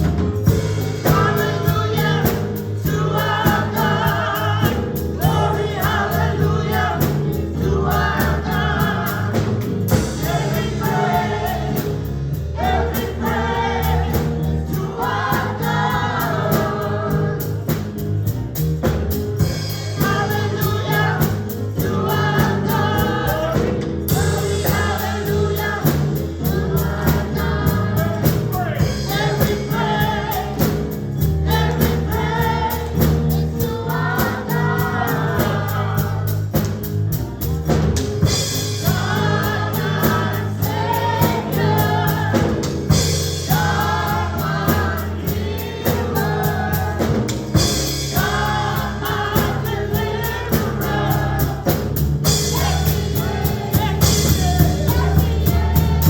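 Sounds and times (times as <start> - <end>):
bass line: 0.0 - 56.0
drums beating: 0.0 - 56.0
gospel choir singing: 0.0 - 56.0.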